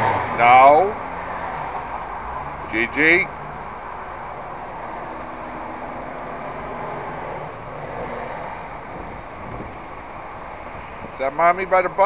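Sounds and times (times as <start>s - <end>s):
low engine hum: 0.0s - 11.8s
street traffic: 0.0s - 12.0s.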